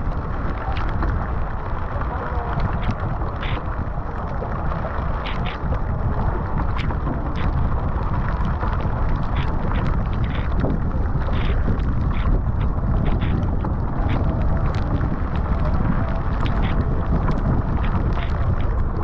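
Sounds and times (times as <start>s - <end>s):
choppy water rushing along hull: 0.0s - 19.0s
wind buffeting microphone: 0.0s - 19.0s.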